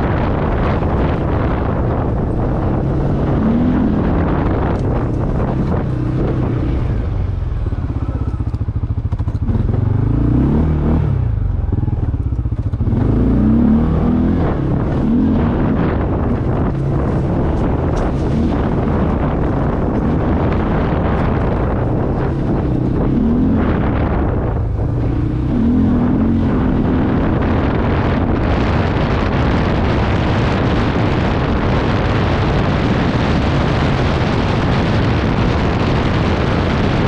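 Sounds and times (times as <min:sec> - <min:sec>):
atv engine running: 0:00.0 - 0:37.0
wind buffeting microphone: 0:00.0 - 0:37.0.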